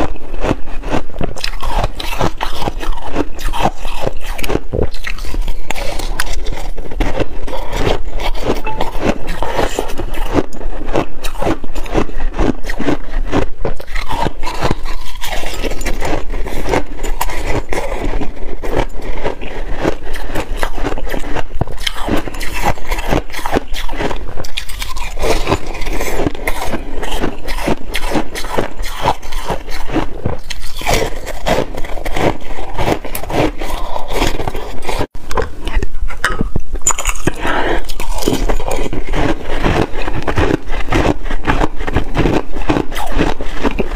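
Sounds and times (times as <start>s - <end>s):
metal spoon scraping ice: 0.0s - 35.1s, 36.8s - 43.9s
chewing crunchy ice: 0.0s - 43.9s.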